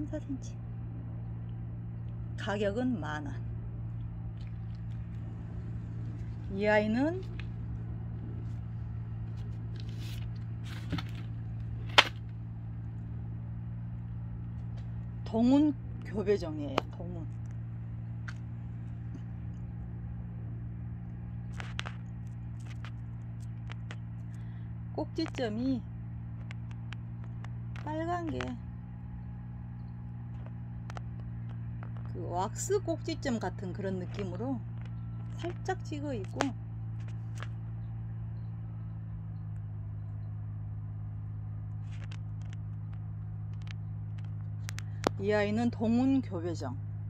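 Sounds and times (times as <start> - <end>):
farm machinery engines droning: 0.0 - 47.0.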